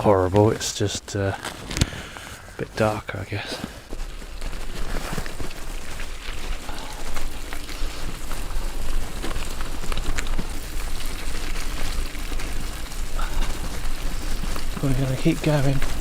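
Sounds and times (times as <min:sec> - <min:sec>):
bicycle tyres on gravel: 0:00.0 - 0:16.0.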